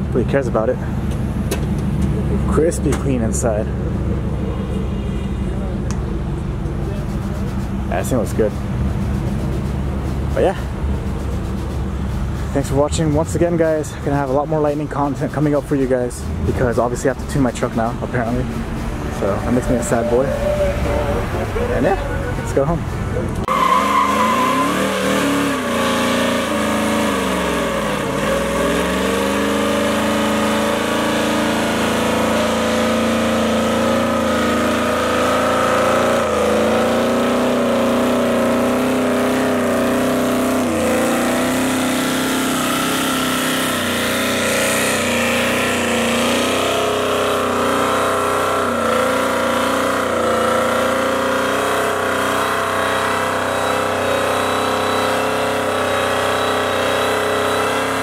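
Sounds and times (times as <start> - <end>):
engine at high revs: 0.0 - 58.0.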